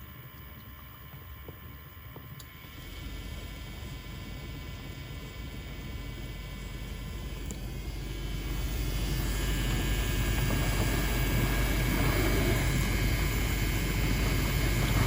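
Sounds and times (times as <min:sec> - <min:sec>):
dishwasher pump droning: 0:00.0 - 0:15.0.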